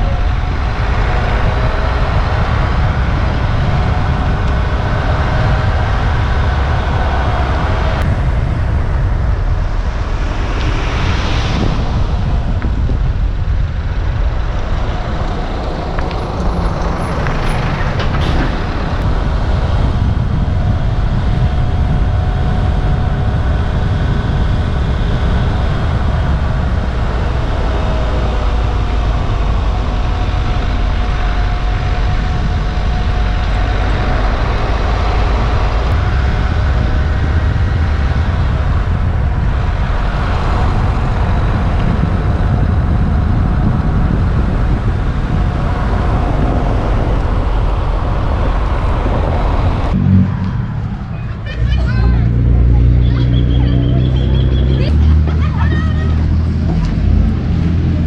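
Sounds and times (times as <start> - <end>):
road noise: 0.0 - 58.0
vehicle engine rumble: 0.0 - 58.0.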